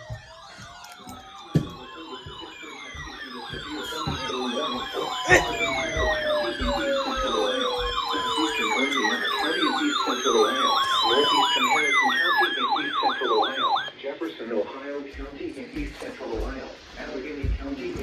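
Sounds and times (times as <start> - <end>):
emergency sirens wailing: 0.0 - 18.0.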